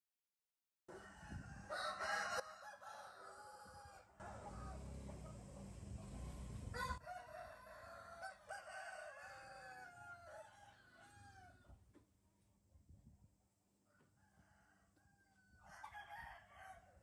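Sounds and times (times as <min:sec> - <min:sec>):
faint rooster crowing: 0:00.9 - 0:11.8, 0:13.8 - 0:17.0.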